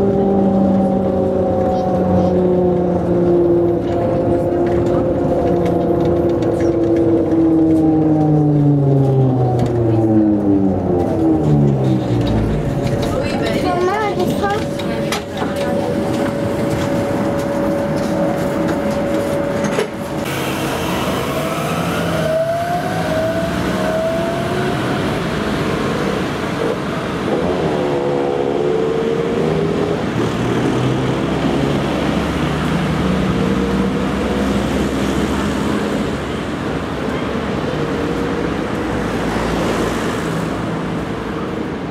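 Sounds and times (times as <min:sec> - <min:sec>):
electric tram drive whine: 0:00.0 - 0:41.9
street traffic: 0:00.0 - 0:41.9
tyres rumbling: 0:00.0 - 0:41.9.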